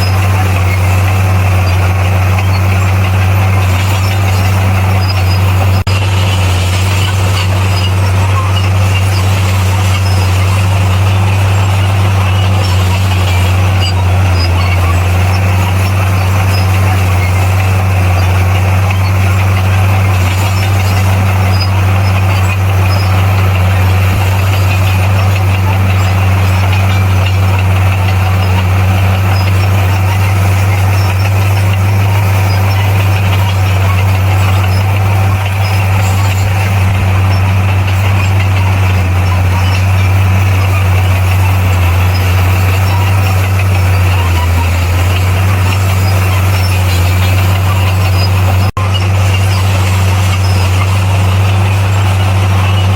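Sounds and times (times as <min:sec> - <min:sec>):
bulldozer diesel engine droning: 0:00.0 - 0:52.9.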